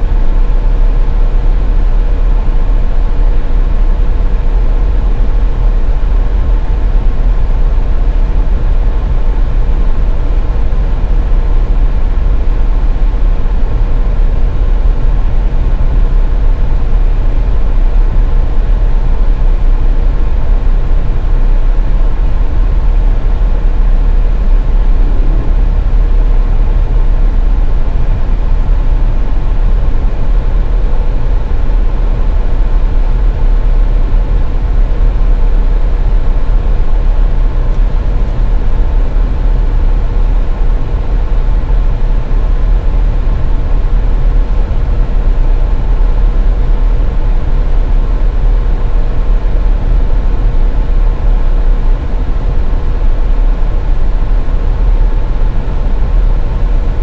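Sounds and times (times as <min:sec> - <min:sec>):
car tyres and engine rumble: 0:00.0 - 0:57.0
faint steady hum: 0:00.0 - 0:57.0.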